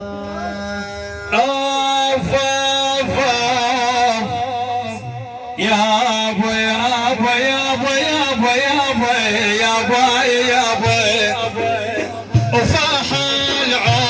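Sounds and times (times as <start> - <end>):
man singing with vibrato: 0.0 - 14.0.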